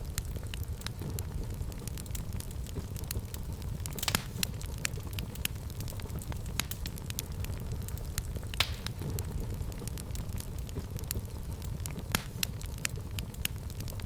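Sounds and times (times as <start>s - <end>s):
fire crackling and popping: 0.0s - 14.0s
low steady rumble: 0.0s - 14.0s.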